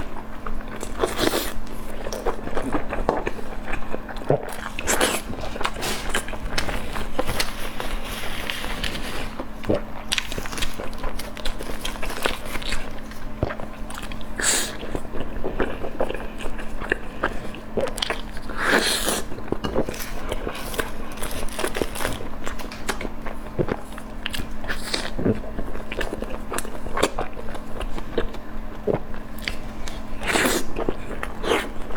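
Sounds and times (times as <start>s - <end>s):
person chewing food: 0.0s - 31.9s.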